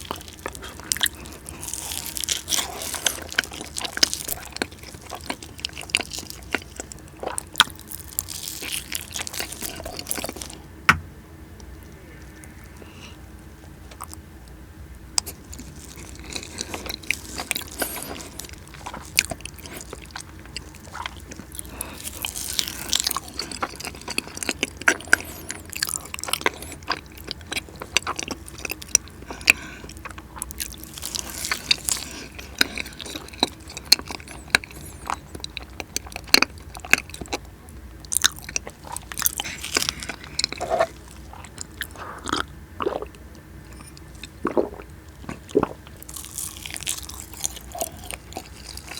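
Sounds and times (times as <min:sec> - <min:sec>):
person biting and chewing: 0:00.0 - 0:10.6, 0:15.2 - 0:37.4, 0:38.1 - 0:48.9.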